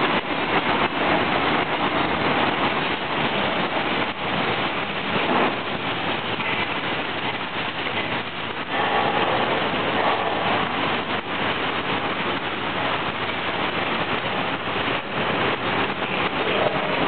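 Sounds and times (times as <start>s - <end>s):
packing machine running: 0.0s - 17.0s.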